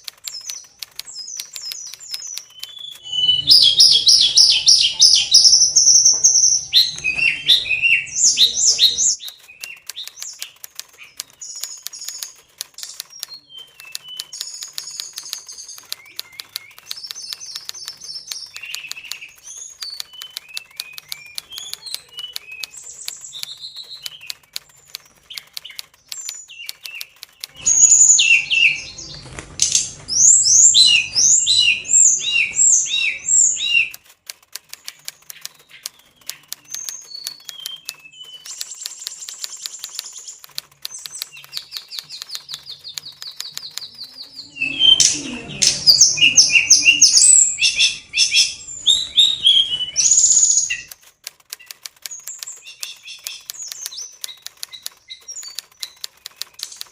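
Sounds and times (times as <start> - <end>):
wing-flapping flutter: 0.0 - 4.4, 9.1 - 30.8, 33.8 - 47.2, 50.1 - 56.9
rapid ticking: 0.0 - 7.1, 8.4 - 31.8, 33.4 - 47.6, 50.0 - 56.9
bird singing: 0.0 - 56.9.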